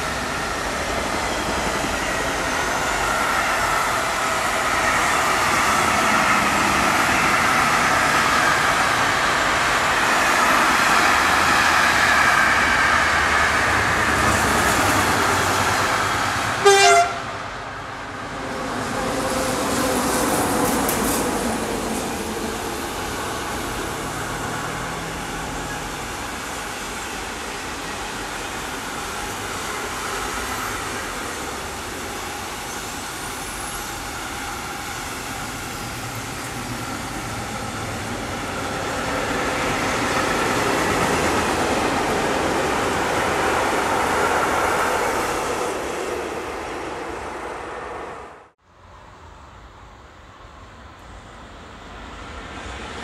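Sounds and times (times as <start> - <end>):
freight train wheels on rails: 0.0 - 53.0.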